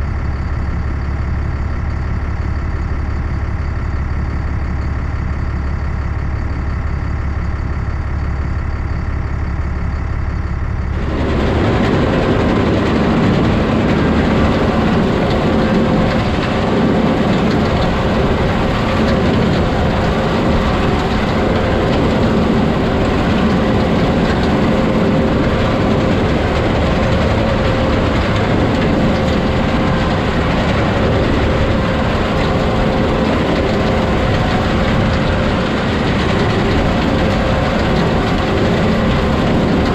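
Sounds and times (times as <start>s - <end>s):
heavy vehicle engine running: 0.0s - 39.9s
loud machine hum: 0.0s - 39.9s.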